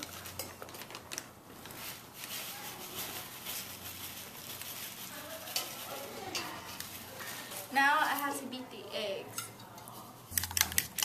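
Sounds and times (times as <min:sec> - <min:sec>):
rustling stir: 0:00.0 - 0:11.0.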